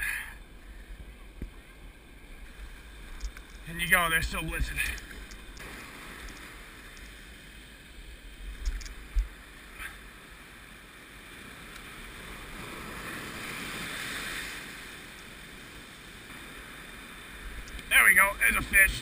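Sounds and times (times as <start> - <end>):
surf washing over rocks: 0.0 - 19.0.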